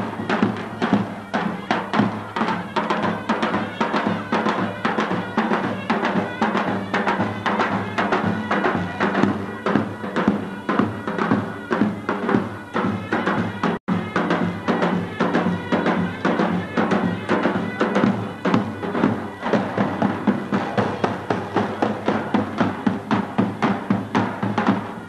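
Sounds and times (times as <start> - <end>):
folk drums beating fast: 0.0 - 25.0.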